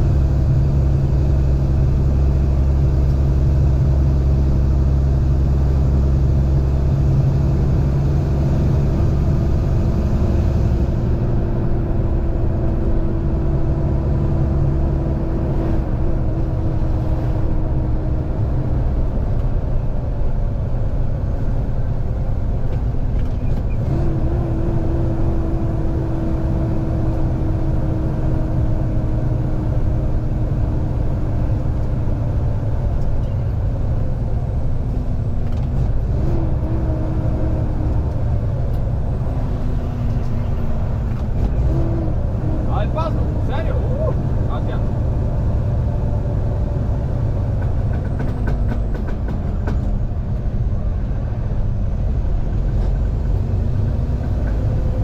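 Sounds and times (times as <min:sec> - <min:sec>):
diesel truck engine rumble: 0:00.0 - 0:55.0.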